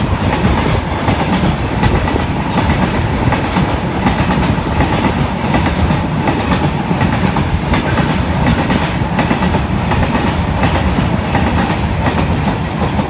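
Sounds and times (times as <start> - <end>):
train wheels rumbling on rail: 0.0 - 13.0
wheels clickety-clack: 0.0 - 13.0.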